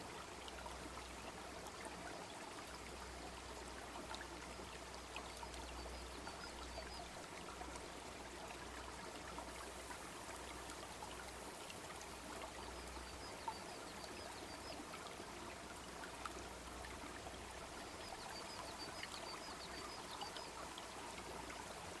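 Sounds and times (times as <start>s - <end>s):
brook babbling: 0.0s - 22.0s.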